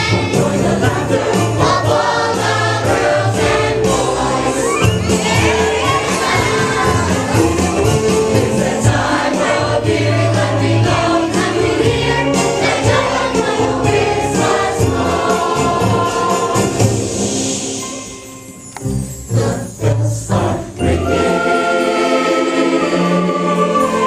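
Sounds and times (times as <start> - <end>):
choir singing with instruments: 0.0 - 18.1, 18.8 - 24.0.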